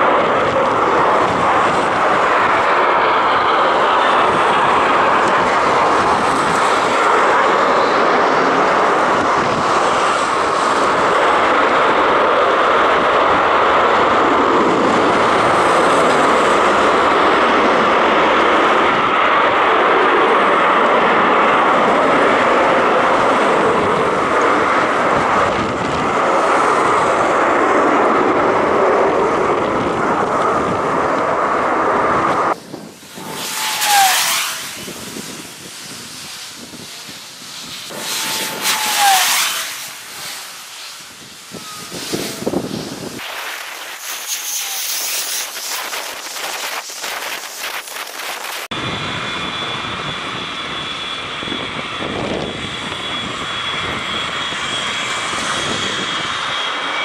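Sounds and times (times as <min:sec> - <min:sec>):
jet engines running loud: 0:00.0 - 0:57.0
jet passing with falling whine: 0:00.0 - 0:57.0.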